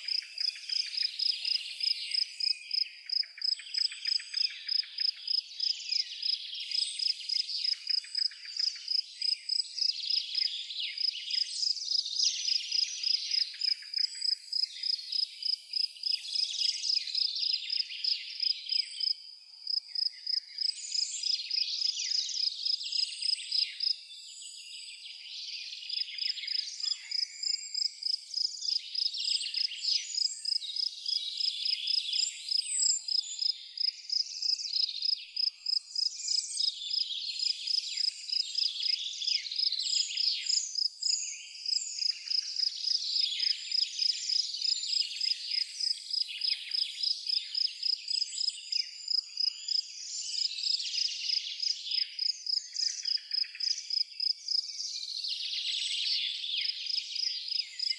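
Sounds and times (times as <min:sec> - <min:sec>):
cricket chirping: 0:00.0 - 0:24.5, 0:25.9 - 0:57.9
songbirds singing: 0:00.0 - 0:57.9.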